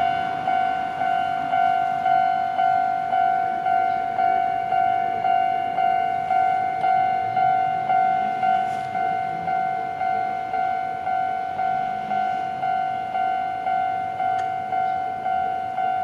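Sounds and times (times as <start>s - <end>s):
level crossing bell ringing: 0.0s - 16.0s.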